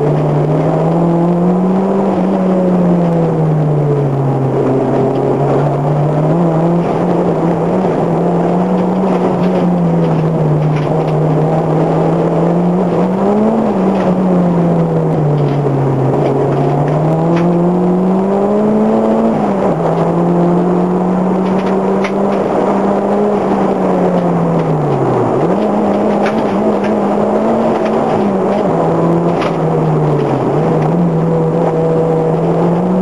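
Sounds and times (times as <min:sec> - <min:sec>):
car engine revving inside cabin: 0:00.0 - 0:33.0.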